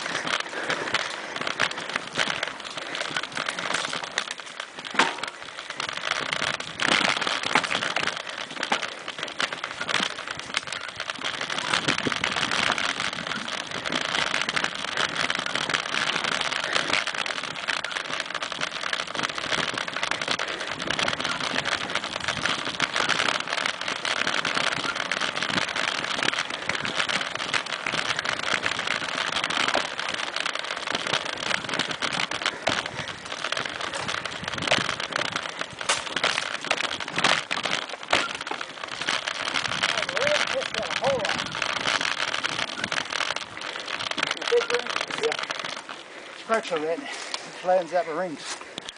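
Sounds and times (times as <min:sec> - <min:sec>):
bike clicking and rattling: 0:00.0 - 0:48.9
tyres crunching over leaves: 0:00.0 - 0:48.9.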